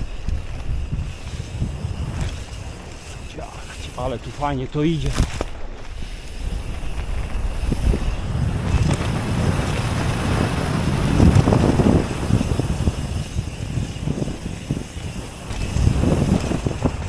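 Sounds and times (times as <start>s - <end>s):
bike rattling and knocking: 0.0s - 17.0s
tyres rumbling over dirt: 0.0s - 17.0s
wind rushing over microphone: 0.0s - 17.0s.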